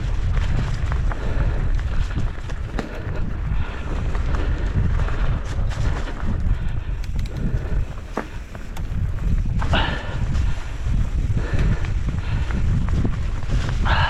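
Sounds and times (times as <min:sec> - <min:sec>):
bike rattling over bumps: 0:00.0 - 0:14.0
bike tyres rolling on dirt: 0:00.0 - 0:14.0
wind buffeting microphone: 0:00.0 - 0:14.0.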